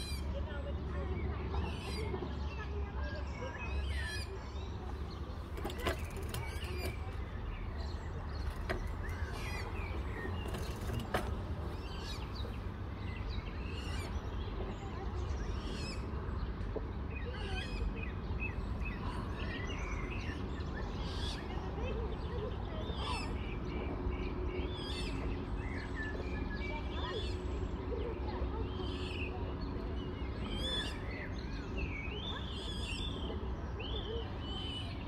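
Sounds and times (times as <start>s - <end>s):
birds chirping and calling: 0.0s - 35.0s.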